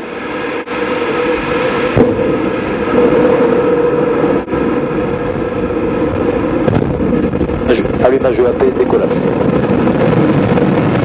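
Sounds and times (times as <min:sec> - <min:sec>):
rocket engine firing: 0:00.0 - 0:11.0.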